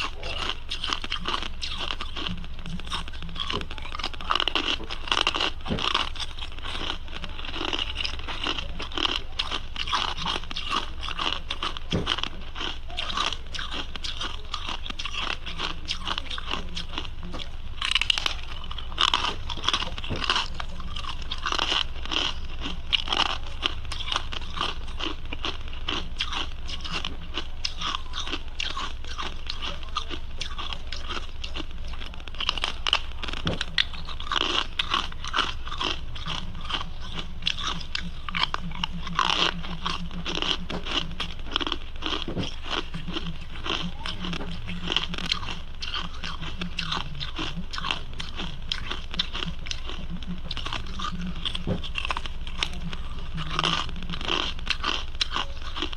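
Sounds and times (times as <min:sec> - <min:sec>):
ice being chewed: 0:00.0 - 0:55.9
low buzzing hum: 0:00.0 - 0:55.9.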